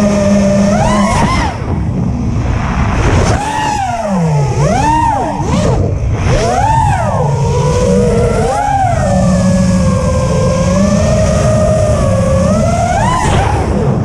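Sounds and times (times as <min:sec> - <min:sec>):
low wind rumble: 0:00.0 - 0:14.0
quadcopter propellers whining: 0:00.0 - 0:14.0.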